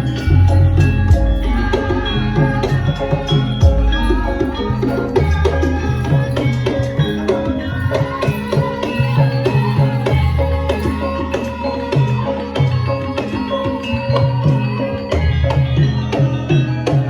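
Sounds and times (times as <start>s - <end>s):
sustained low tones: 0.0s - 14.5s
hand drum strokes: 0.0s - 17.0s
metallophones ringing: 0.0s - 17.0s.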